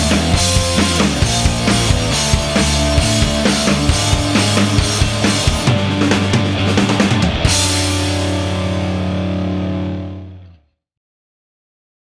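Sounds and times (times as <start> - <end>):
rock music with drums and guitar: 0.0 - 10.5.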